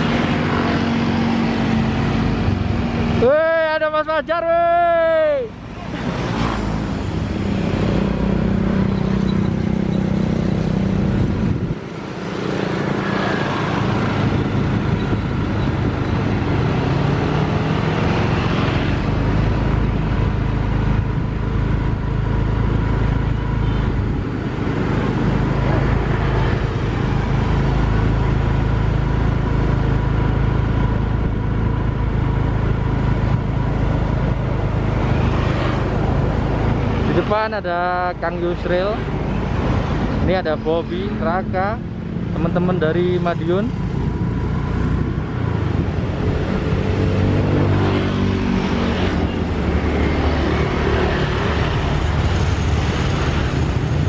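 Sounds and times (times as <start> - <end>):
vehicle engine hum: 0.0 - 54.0.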